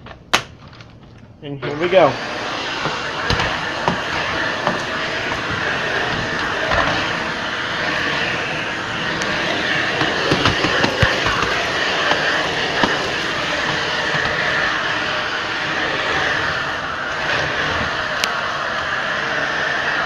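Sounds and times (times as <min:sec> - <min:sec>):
vacuum cleaner whirring: 0:01.5 - 0:20.0.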